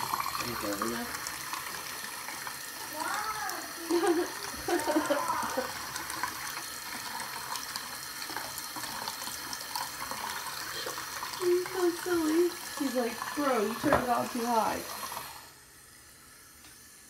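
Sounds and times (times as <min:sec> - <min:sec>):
faucet running into sink: 0:00.0 - 0:17.0.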